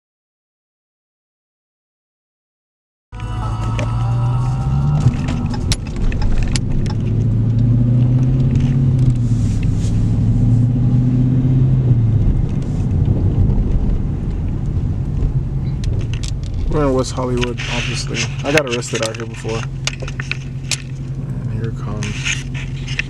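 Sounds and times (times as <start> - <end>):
road rumble: 3.1 - 23.0
car engine drone: 3.2 - 23.0.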